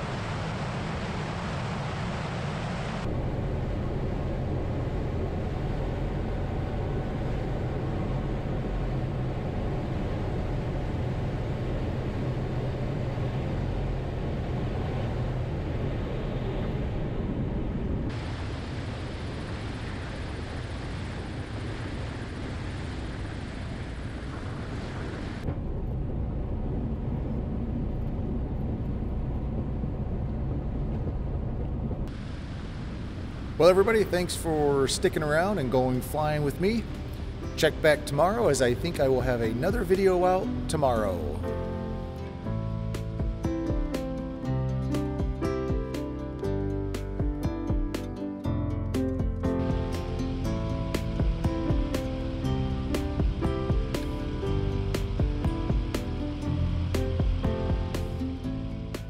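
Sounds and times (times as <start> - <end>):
propeller airplane engine drone: 0.0 - 59.0.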